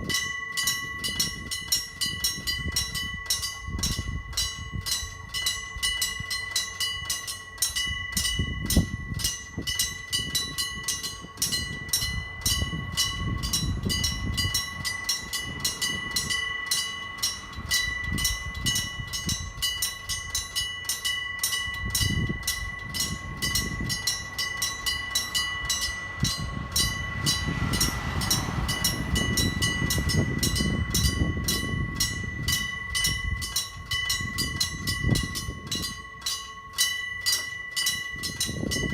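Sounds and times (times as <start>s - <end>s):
level crossing bells ringing: 0.0s - 38.9s
train rumbling: 0.0s - 38.9s.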